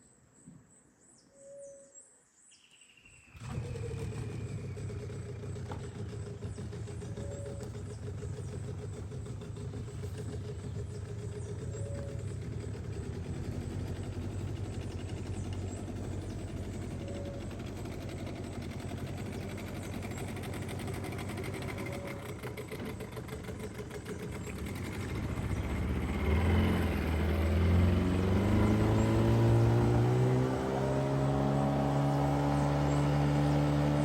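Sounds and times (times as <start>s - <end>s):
small boat motor running: 3.3s - 34.0s.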